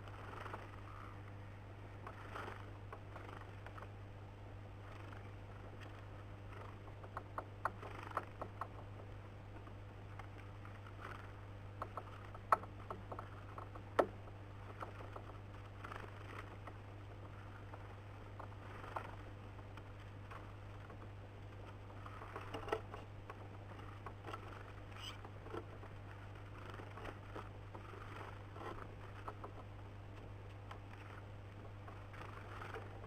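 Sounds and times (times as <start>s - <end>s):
low electrical hum: 0.0s - 33.0s
birds pecking on feeder: 4.8s - 33.0s.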